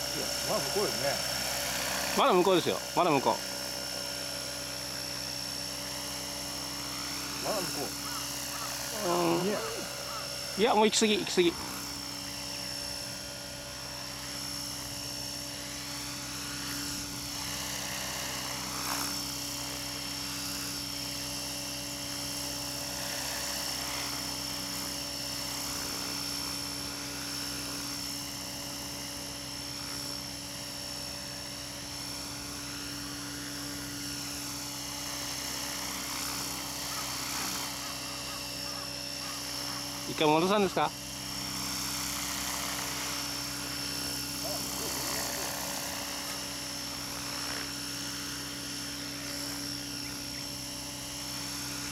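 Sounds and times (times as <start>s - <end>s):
electric motor whine: 0.0s - 51.9s
helicopter rotor spinning: 0.0s - 51.9s.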